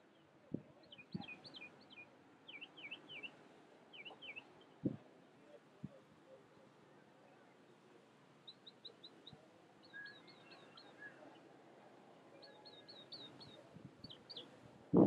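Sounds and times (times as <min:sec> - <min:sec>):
faint bird chirping: 0:00.0 - 0:07.8, 0:08.4 - 0:15.0.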